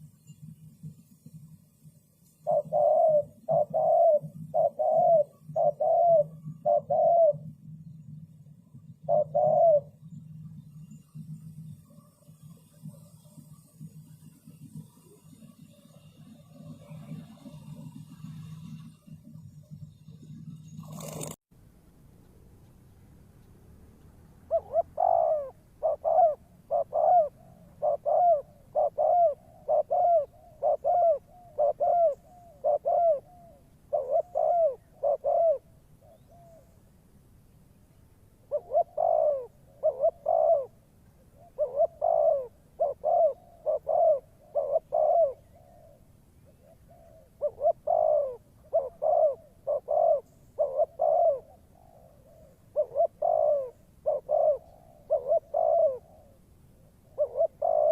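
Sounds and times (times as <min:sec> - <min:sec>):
dove cooing: 0:02.3 - 0:19.3, 0:20.8 - 0:21.4, 0:24.4 - 0:36.9, 0:38.4 - 0:57.9.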